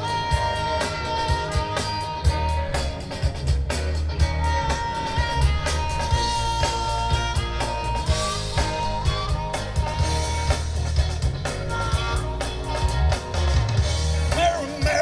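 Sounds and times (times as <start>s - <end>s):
bending electric guitar lead: 0.0s - 15.0s
live rock band playing: 0.0s - 15.0s.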